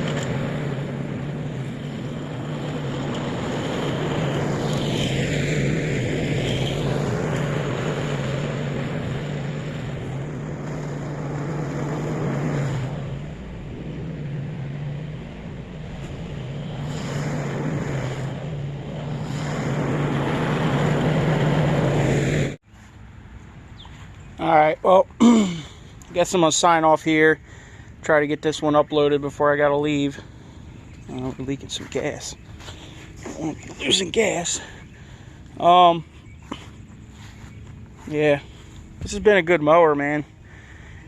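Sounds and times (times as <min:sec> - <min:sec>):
riding lawn mower engine: 0:00.0 - 0:41.0.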